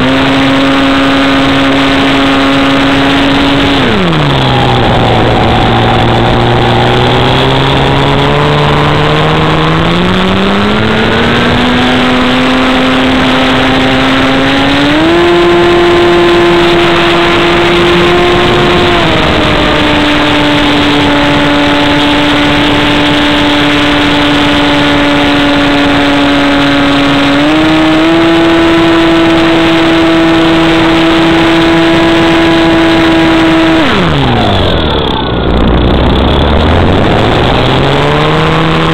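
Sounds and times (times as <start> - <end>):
model airplane motor running: 0.0 - 38.9.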